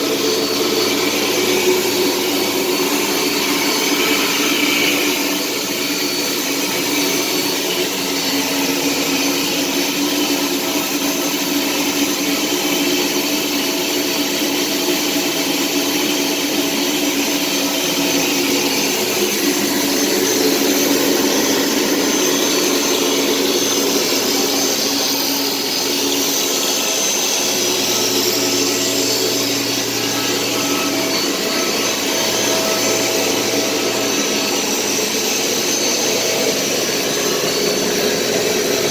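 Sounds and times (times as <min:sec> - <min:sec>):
machine drone with hiss: 0:00.0 - 0:38.9.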